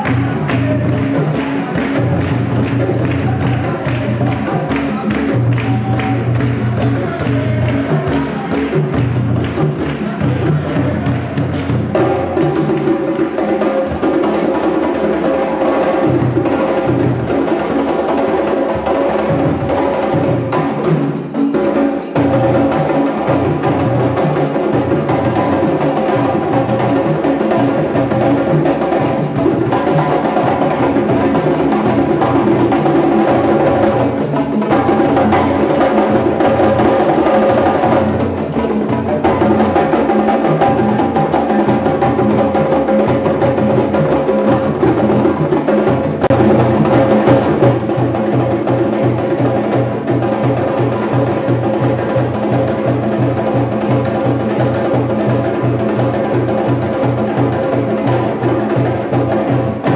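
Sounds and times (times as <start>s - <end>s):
music with busy percussion: 0.0s - 59.9s.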